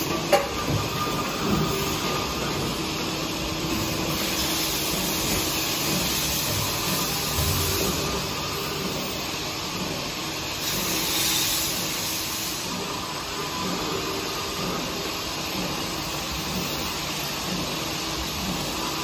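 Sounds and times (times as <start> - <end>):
machinery humming and hissing: 0.0 - 19.0.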